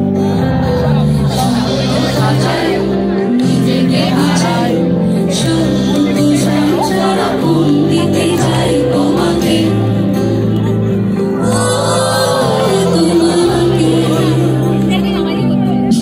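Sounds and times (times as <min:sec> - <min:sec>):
keyboard chords: 0:00.0 - 0:16.0
live band over pa system: 0:00.0 - 0:16.0
female lead vocal: 0:00.4 - 0:16.0.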